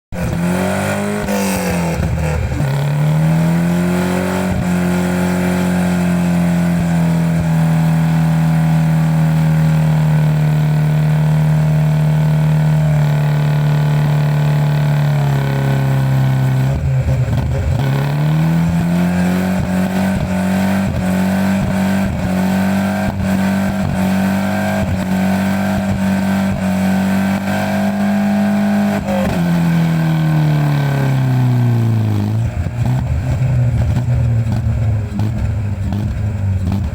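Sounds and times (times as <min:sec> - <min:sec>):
engine crackles: 0:00.1 - 0:36.9
four-cylinder engine at high revs: 0:00.1 - 0:36.9.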